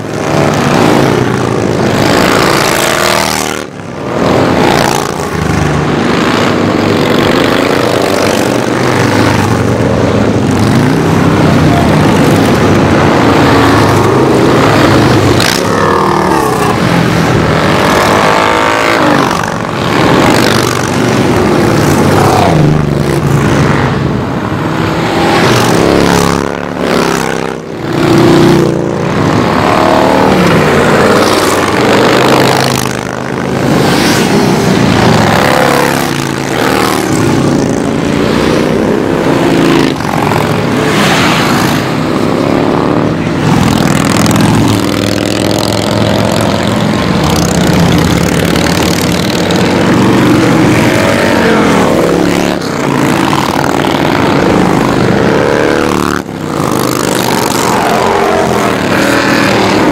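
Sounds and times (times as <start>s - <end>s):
motorcycles riding past: 0.0s - 59.9s.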